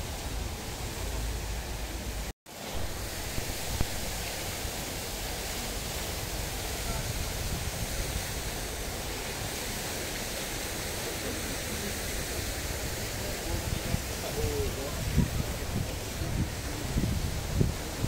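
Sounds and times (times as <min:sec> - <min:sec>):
fountain water splashing: 0:00.0 - 0:18.0.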